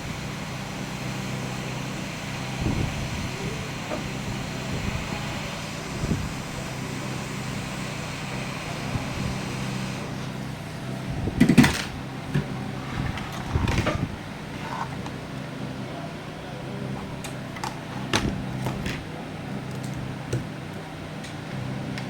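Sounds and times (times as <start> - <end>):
fan humming: 0.0 - 22.0.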